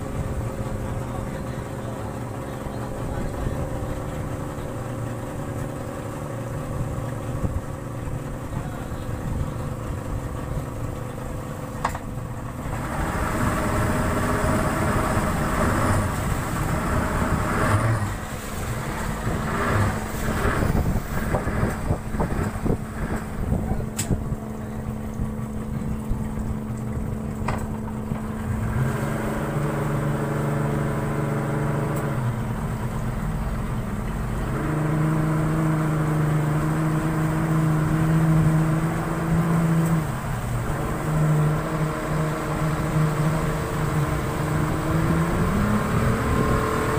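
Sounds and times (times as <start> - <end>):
wind and water rushing: 0.0 - 1.3, 3.0 - 46.9
motorboat engine running: 0.0 - 46.9.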